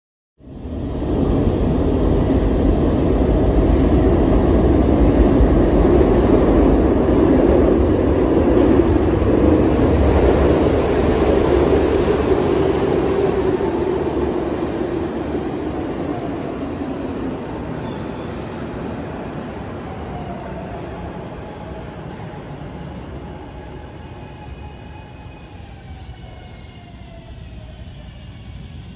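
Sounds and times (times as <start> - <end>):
subway train wheels rumbling: 0.4 - 28.9.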